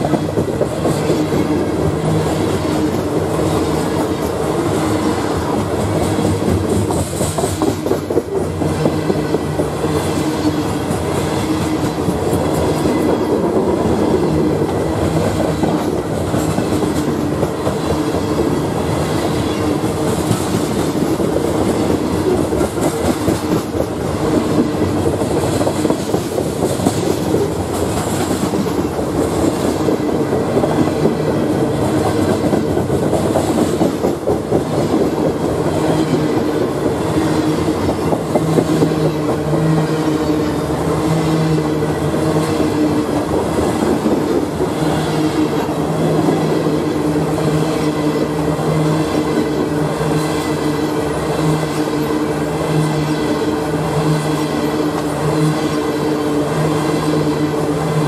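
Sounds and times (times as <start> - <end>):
dense clicking over track: 0.0 - 58.0
steel wheels running on rails: 0.0 - 58.0.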